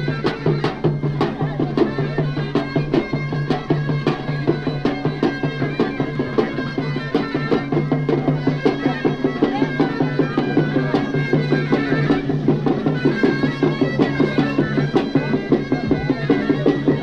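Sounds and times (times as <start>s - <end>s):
reedy wind instrument: 0.0s - 17.0s.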